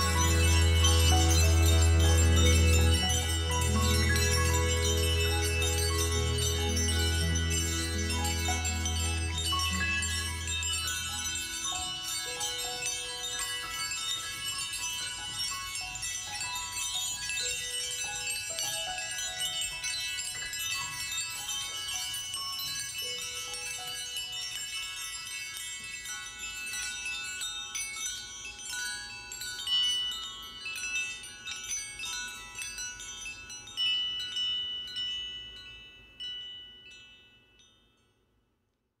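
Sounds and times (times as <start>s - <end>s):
hand chimes ringing: 0.0s - 38.4s.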